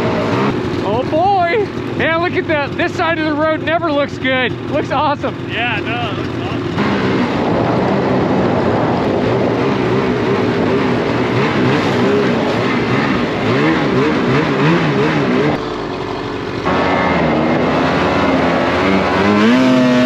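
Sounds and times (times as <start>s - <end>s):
snowmobile engine running hard: 0.0s - 20.0s.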